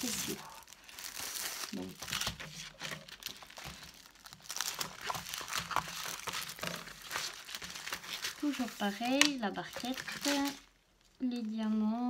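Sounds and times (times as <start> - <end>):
paper crinkling and rustling: 0.0 - 11.8.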